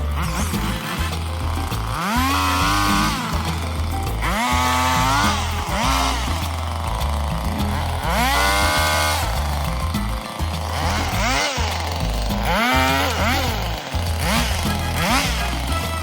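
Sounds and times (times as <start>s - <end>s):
background music with bass line: 0.0s - 16.0s
chainsaw engine revving: 0.0s - 16.0s.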